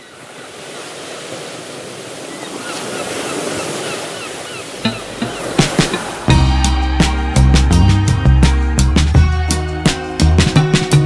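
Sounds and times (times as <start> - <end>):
waves washing: 0.0 - 9.2.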